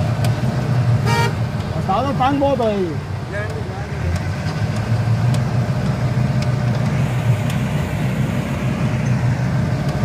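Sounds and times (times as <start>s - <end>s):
jeep engine rumbling: 0.0s - 10.0s.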